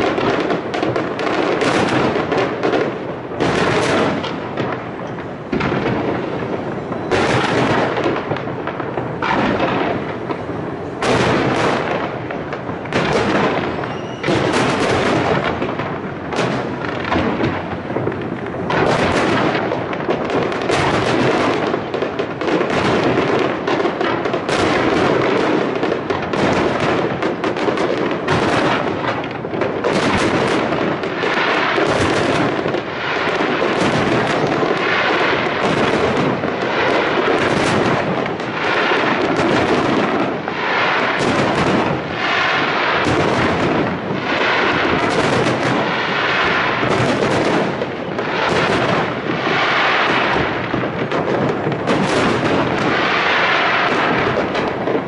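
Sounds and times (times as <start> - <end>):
crackling fireworks fizz: 0.0 - 55.0
fireworks booms and bangs: 0.0 - 55.0.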